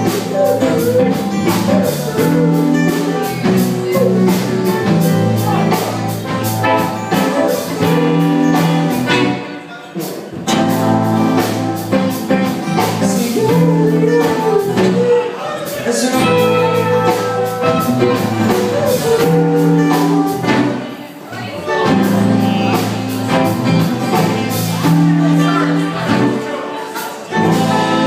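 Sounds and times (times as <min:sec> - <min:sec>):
person singing: 0:00.0 - 0:09.3, 0:12.3 - 0:28.0
bass: 0:00.0 - 0:28.0
drums: 0:00.0 - 0:28.0
electric guitars: 0:00.0 - 0:28.0
strummed acoustic guitars: 0:00.0 - 0:28.0.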